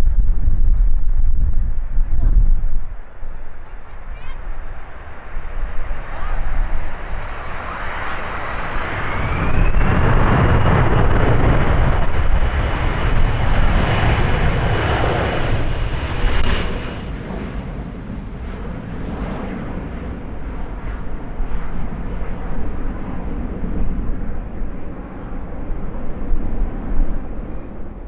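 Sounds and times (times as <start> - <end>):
high jet engine whine: 0.0 - 28.0
jet engines roaring: 0.0 - 28.0.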